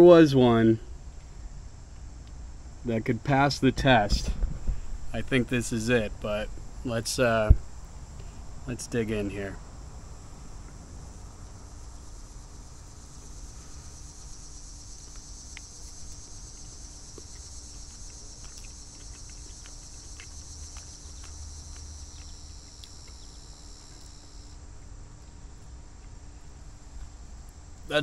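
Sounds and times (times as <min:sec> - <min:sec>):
insects chorus: 0:00.0 - 0:28.0.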